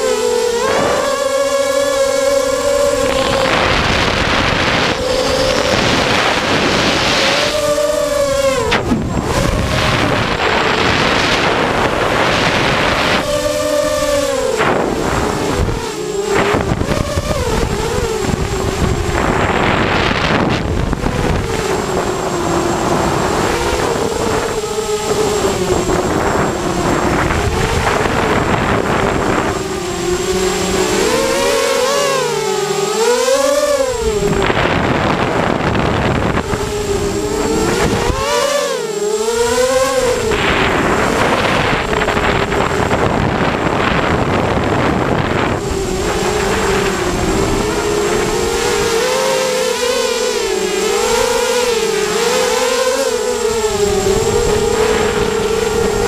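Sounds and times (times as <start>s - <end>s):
drone motors whining: 0.0s - 56.0s
steady rushing hiss: 0.0s - 56.0s.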